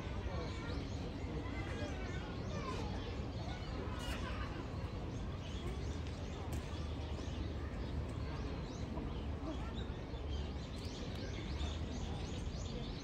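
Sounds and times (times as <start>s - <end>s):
faint murmur of voices: 0.0s - 13.0s.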